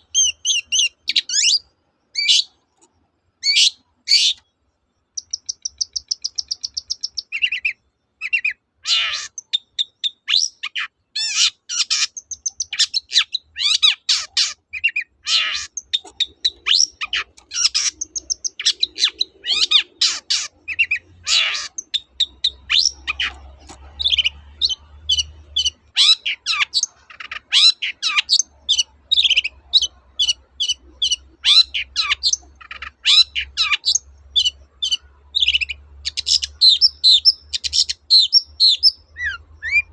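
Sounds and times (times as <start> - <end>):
bird singing rapid song: 0.0 - 2.8, 3.4 - 39.9.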